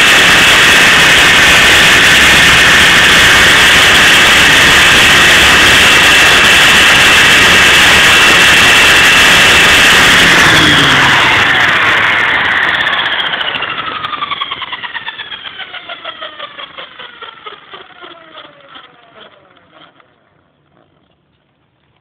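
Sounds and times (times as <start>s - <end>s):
rotor blade beats: 0.0s - 20.5s
helicopter motor whine falling: 0.0s - 22.0s.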